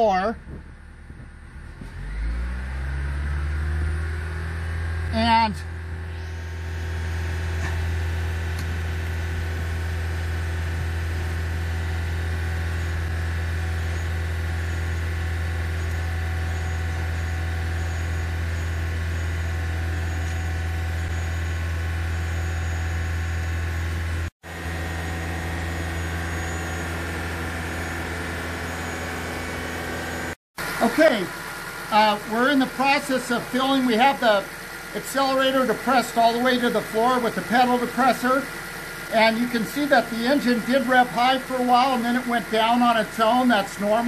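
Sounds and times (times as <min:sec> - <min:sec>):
car engine low hum: 0:00.0 - 0:44.0.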